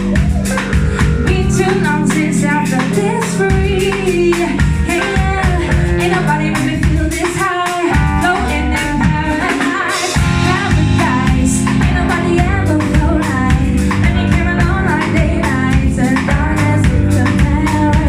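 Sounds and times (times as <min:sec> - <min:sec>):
bass guitar: 0:00.0 - 0:18.0
drum kit: 0:00.0 - 0:18.0.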